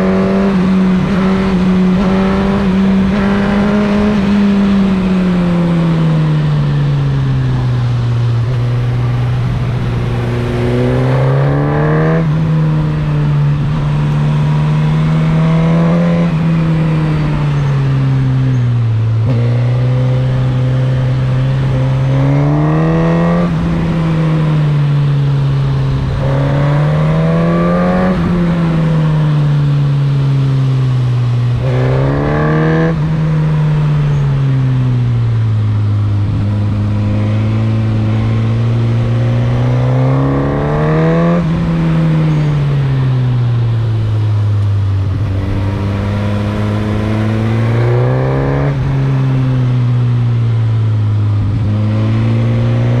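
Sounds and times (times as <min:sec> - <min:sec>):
motorcycle engine revving: 0:00.0 - 0:53.0
wind and road rush: 0:00.0 - 0:53.0.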